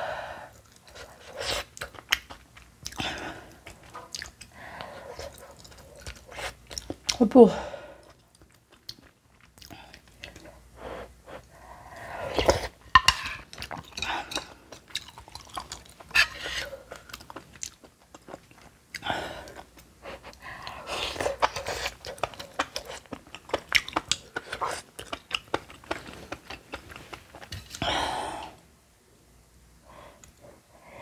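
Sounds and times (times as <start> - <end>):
person chewing crunchy food: 0.5 - 7.2, 8.0 - 10.6, 12.2 - 27.9.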